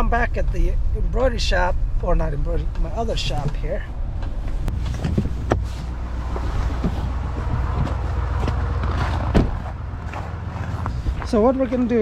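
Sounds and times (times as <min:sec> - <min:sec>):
vehicle engine running: 0:00.4 - 0:12.0.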